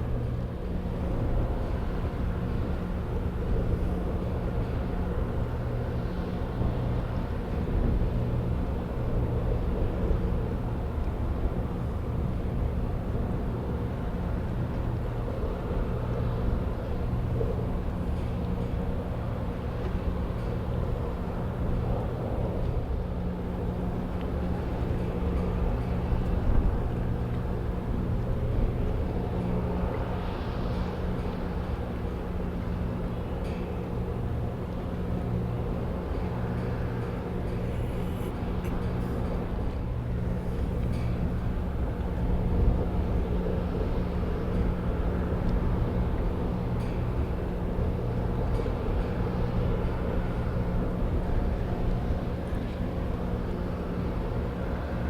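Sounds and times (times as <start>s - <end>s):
ship engines droning: 0.0s - 55.0s.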